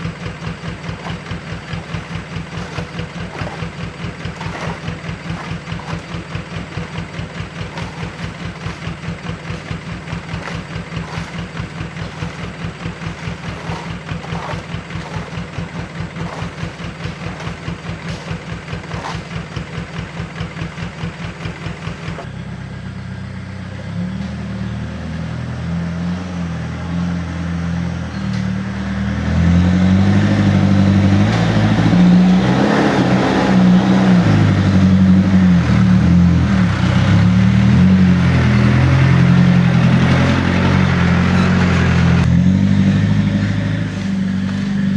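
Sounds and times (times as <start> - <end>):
diesel truck engine: 0.0 - 44.9.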